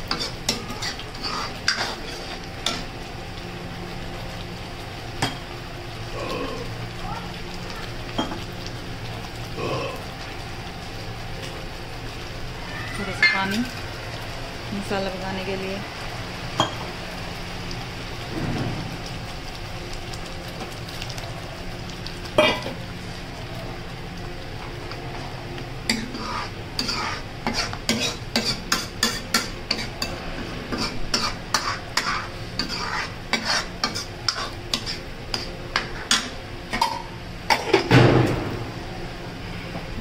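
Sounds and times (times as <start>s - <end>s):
masala sizzling in oil: 0.0s - 40.0s.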